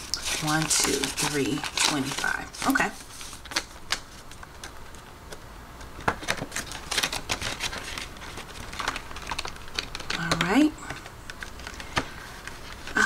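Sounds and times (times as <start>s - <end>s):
paper bills rustling: 0.0s - 5.4s, 6.0s - 13.0s.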